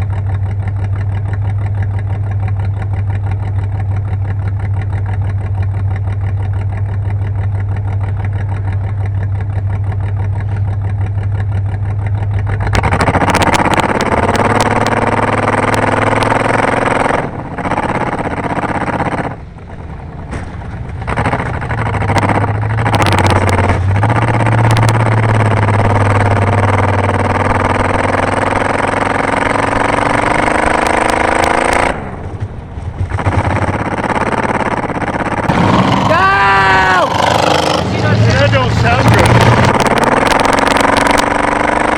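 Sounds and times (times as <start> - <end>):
car engine idling and accelerating: 0.0 - 41.9.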